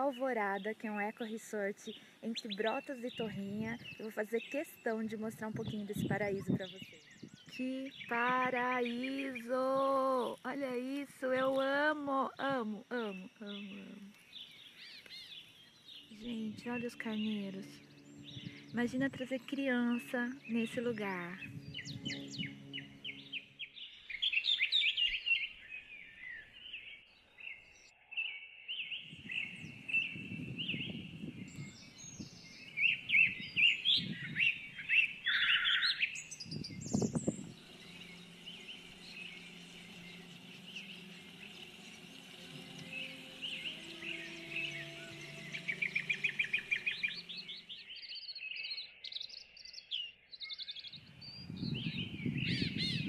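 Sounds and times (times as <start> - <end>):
low steady hum: 0.0 - 23.7, 29.0 - 47.8
small birds chirping: 0.0 - 53.0.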